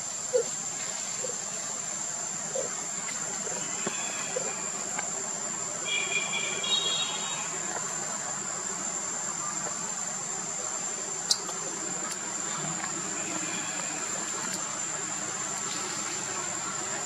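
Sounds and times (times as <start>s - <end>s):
background noise: 0.0s - 17.0s
insects droning: 0.0s - 17.0s.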